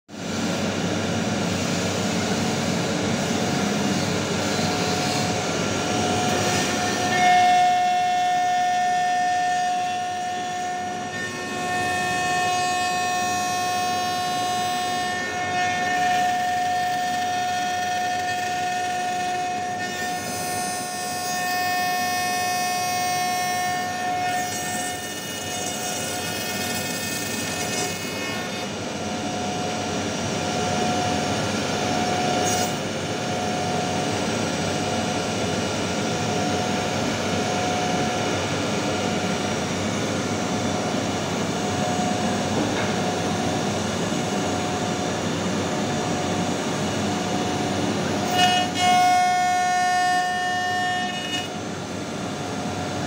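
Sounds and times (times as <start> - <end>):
router spindle high-pitched whine: 0.2 - 53.0.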